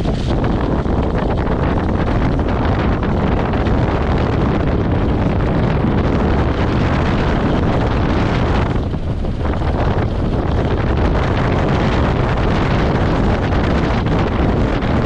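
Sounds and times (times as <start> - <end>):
skis running over packed snow: 0.0 - 15.0
wind buffeting microphone: 0.0 - 15.0.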